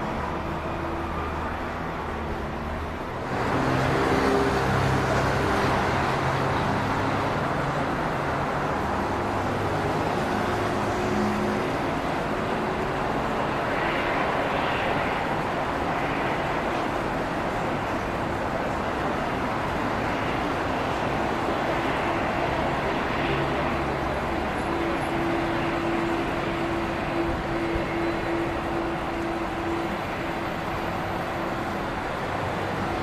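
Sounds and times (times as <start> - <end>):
jet airliner engine rushing: 3.3 - 33.0.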